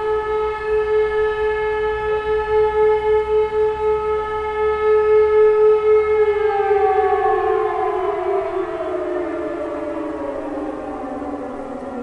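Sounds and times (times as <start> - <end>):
distant sirens wailing: 0.0 - 12.0.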